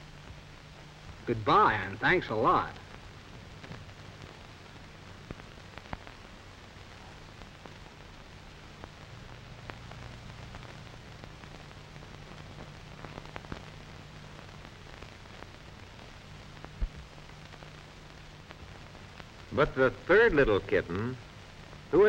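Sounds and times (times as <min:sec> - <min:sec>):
film soundtrack hiss and crackles: 0:00.0 - 0:22.0
low steady hum: 0:00.0 - 0:22.0.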